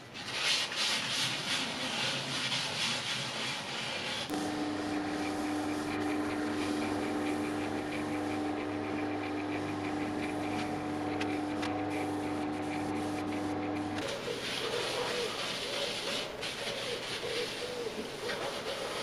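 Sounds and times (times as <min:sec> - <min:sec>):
cloth rubbing wooden bowl: 0:00.0 - 0:19.0
lathe motor humming: 0:03.7 - 0:19.0.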